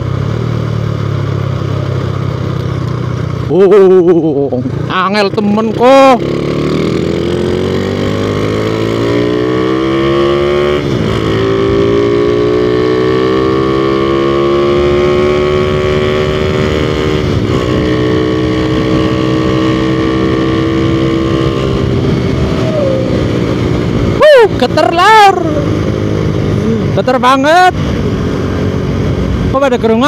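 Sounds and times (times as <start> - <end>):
motorcycle engine under throttle: 0.0 - 30.0.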